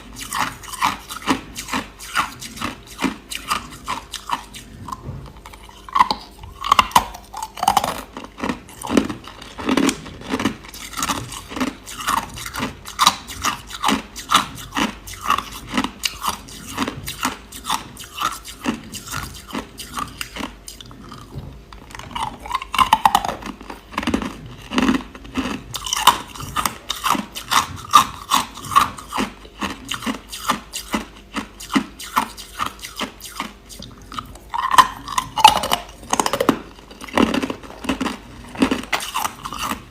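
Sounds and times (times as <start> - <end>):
crushed ice being chewed: 0.0 - 39.9.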